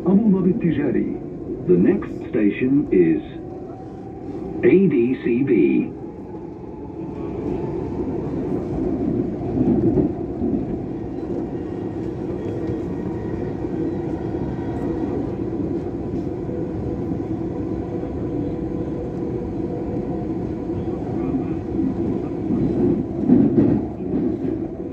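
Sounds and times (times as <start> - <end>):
train rumbling inside carriage: 0.0 - 24.9.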